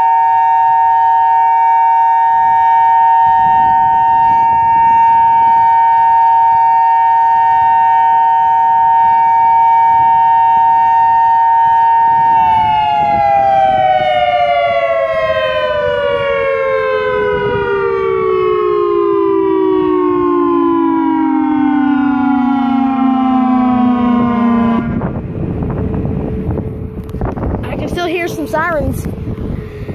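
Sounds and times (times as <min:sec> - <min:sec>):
outdoor warning siren two-note tone: 0:00.0 - 0:27.6.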